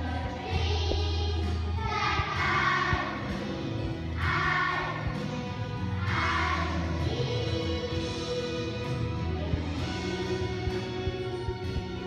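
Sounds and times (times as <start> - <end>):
children's choir singing: 0.0 - 12.0
instrumental accompaniment: 0.0 - 12.0.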